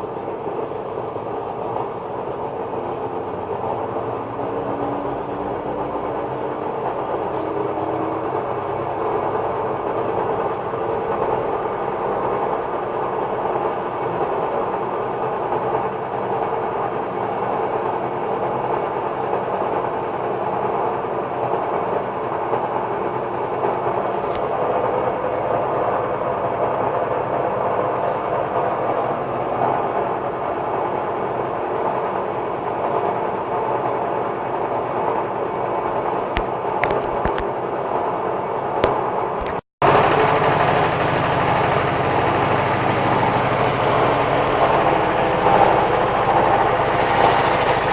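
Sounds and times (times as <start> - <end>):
washer-dryer loud mechanical rumble: 0.0 - 47.9.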